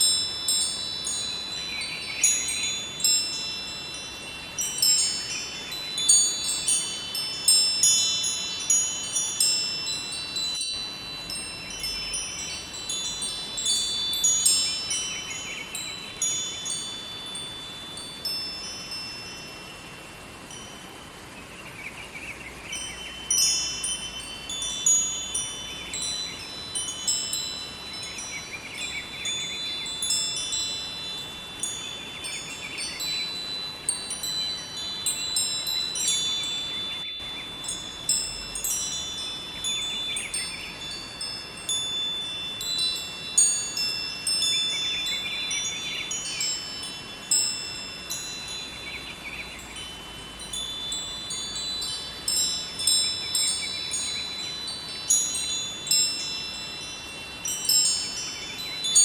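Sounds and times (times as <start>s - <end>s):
river flowing: 0.0s - 59.0s
wind chimes ringing: 0.0s - 59.0s.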